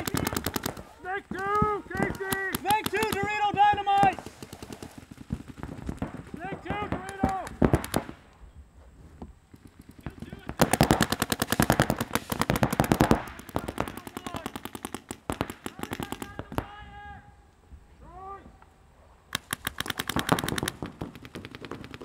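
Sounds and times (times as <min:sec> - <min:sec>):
paintball markers firing: 0:00.0 - 0:08.2, 0:09.5 - 0:16.7, 0:19.3 - 0:22.0.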